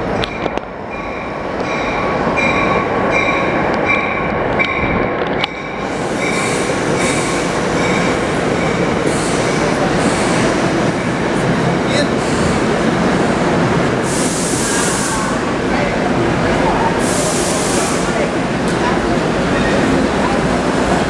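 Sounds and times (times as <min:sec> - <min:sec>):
train cars rumbling past: 0:00.0 - 0:21.0.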